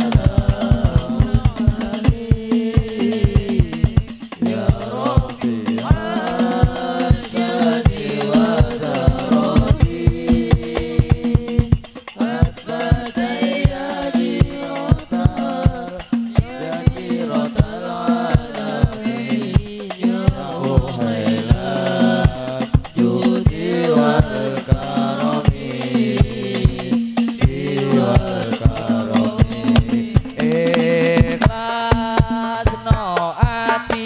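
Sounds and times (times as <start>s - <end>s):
frame drums beating: 0.0s - 34.0s
person singing devotional song: 0.0s - 34.0s.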